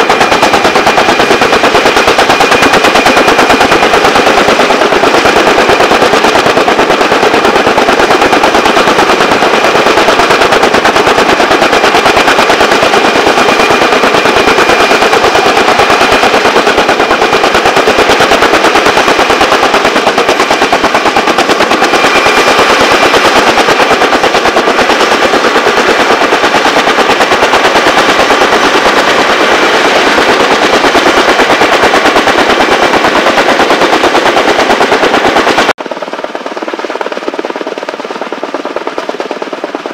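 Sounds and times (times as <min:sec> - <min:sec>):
helicopter rotors chopping: 0:00.0 - 0:39.9.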